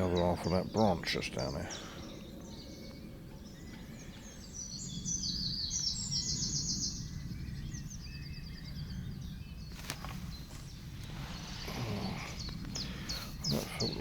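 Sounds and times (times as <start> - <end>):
songbird singing: 0.0 - 14.0
wind noise rumble: 0.0 - 14.0.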